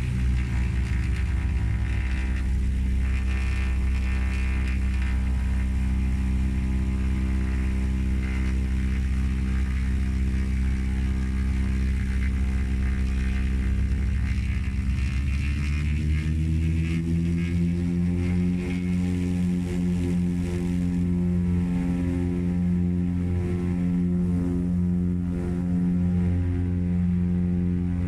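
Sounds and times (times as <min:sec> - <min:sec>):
small plane propeller engine: 0:00.0 - 0:28.0.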